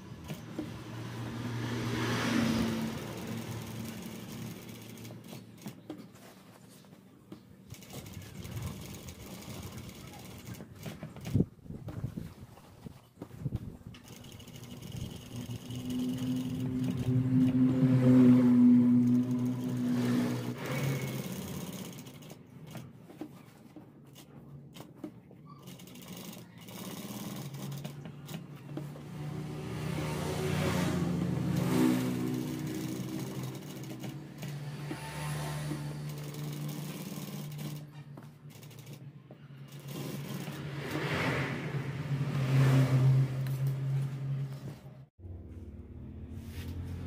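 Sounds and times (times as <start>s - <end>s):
sewing machine stitching: 0.0s - 6.8s, 7.6s - 12.2s, 13.5s - 41.6s.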